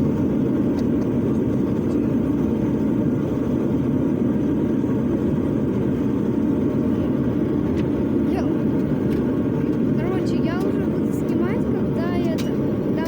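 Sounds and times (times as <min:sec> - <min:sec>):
propeller engines droning: 0:00.0 - 0:13.0.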